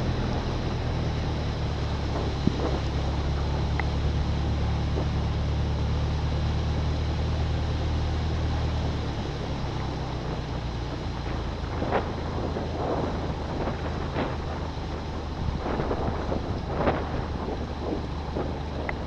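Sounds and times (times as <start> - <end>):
vehicle engine humming: 0.0 - 19.0
water rushing: 0.0 - 19.0
wind noise: 0.0 - 19.0.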